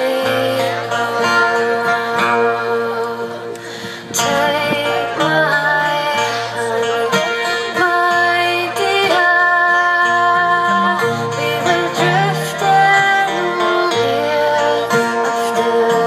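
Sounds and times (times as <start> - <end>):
acoustic guitar: 0.0 - 16.0
woman singing: 0.0 - 16.0.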